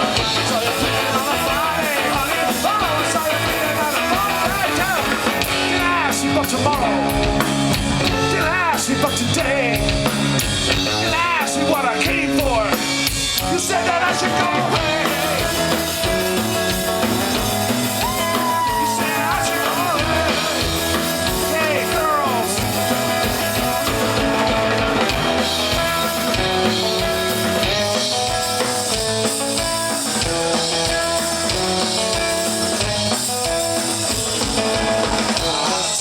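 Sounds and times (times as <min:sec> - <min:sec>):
drum kit beat: 0:00.0 - 0:36.0
live rock band playing: 0:00.0 - 0:36.0.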